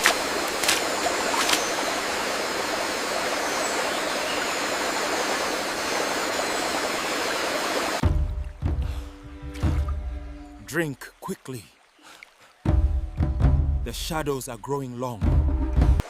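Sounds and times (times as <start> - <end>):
rushing water: 0.0 - 15.2.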